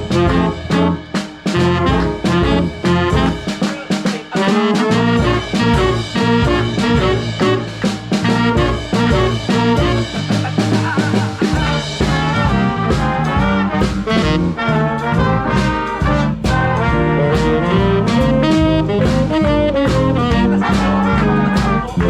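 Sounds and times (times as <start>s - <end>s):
brass horns playing: 0.0s - 22.0s
steady drum beat: 0.0s - 22.0s
swing big band playing: 0.0s - 22.0s.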